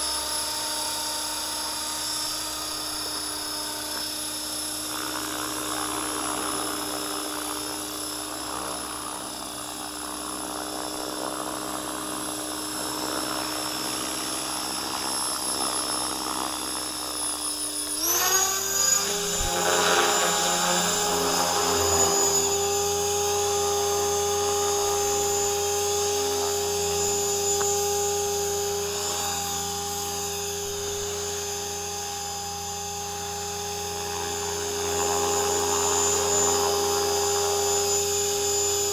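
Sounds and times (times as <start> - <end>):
rc helicopter motor and rotor whine: 0.0 - 38.9.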